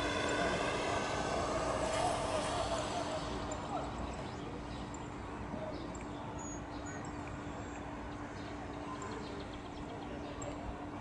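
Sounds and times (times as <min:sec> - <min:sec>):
distant propeller plane droning: 0:00.0 - 0:11.0
small birds chirping: 0:00.0 - 0:11.0.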